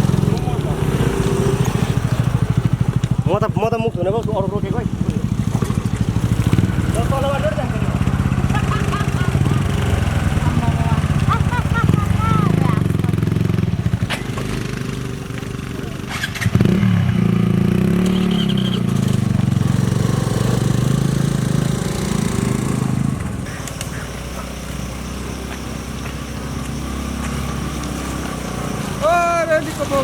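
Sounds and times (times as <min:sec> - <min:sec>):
scooter engine running: 0:00.0 - 0:30.0.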